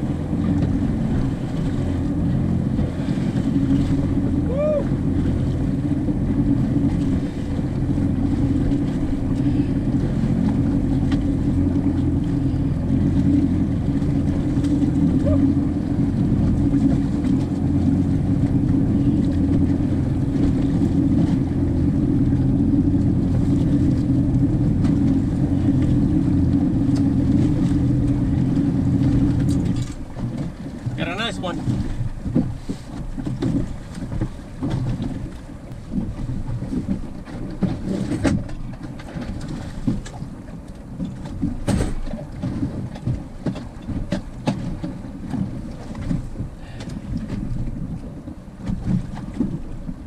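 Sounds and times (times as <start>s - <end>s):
boat engine droning: 0.0s - 50.0s
water noise: 0.0s - 50.0s
wind: 0.0s - 50.0s.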